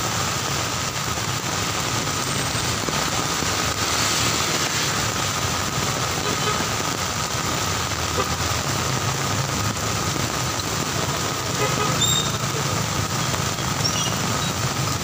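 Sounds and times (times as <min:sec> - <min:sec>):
heavy rain hissing: 0:00.0 - 0:15.0
tyre spray on wet road: 0:00.0 - 0:15.0
passing engines rumbling: 0:01.0 - 0:15.0.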